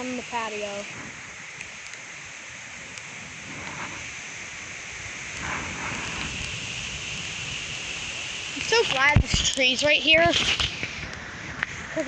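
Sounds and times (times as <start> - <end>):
steady rain falling: 0.0 - 12.0
wind gusting: 0.0 - 12.0.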